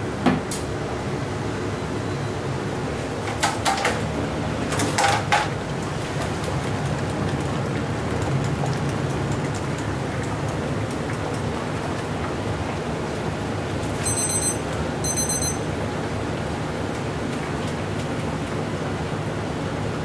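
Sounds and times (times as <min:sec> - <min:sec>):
noodle boiler humming and hissing: 0:00.0 - 0:20.0.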